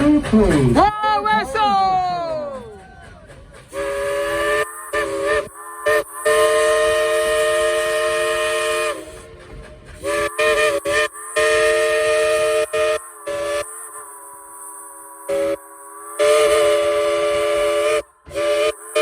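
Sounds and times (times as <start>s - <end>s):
steam hissing: 0.0s - 19.0s
steam locomotive chime whistle: 0.0s - 19.0s.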